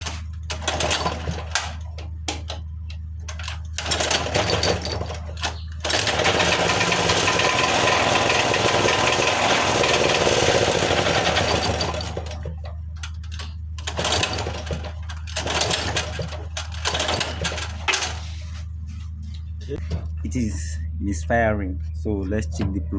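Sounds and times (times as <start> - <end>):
generator engine misfiring: 0.0 - 20.4.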